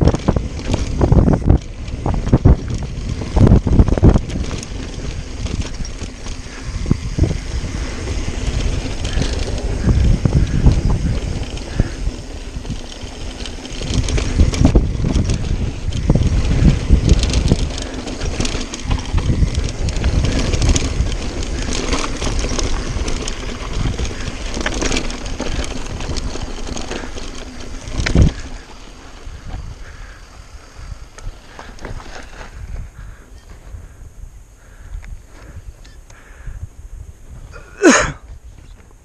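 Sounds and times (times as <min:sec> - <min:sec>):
tyres rumbling over loose dirt: 0:00.0 - 0:34.0
bike rattling over bumps: 0:00.0 - 0:39.0
wind rushing on microphone: 0:00.0 - 0:39.0.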